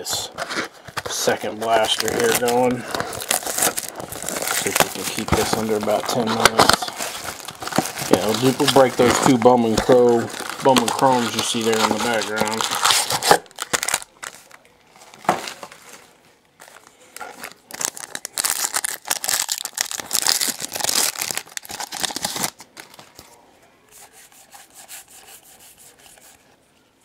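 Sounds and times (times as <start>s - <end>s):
plastic wrapping torn and crinkled: 1.0s - 23.2s.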